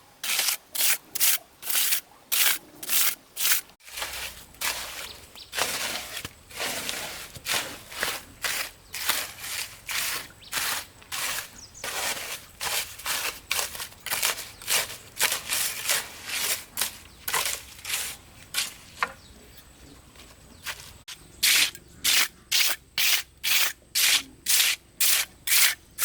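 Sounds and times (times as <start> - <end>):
hand tool scraping ground: 0.0 - 26.0.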